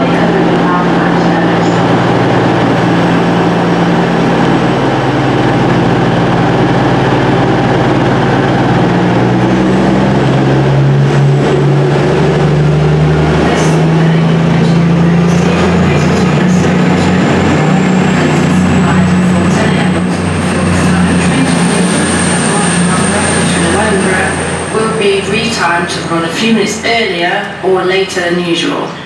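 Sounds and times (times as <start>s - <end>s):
diesel train engine drone: 0.0s - 29.0s.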